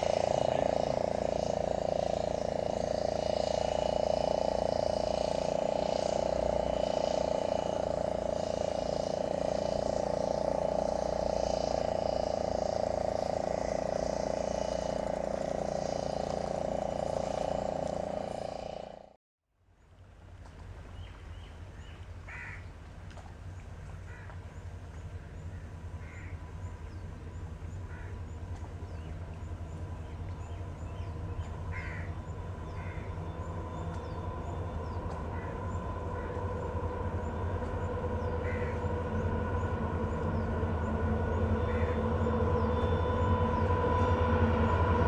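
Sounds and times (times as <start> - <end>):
birds calling: 0.0 - 19.0, 20.9 - 45.0
diesel locomotive rumbling: 0.0 - 19.2, 21.3 - 45.0.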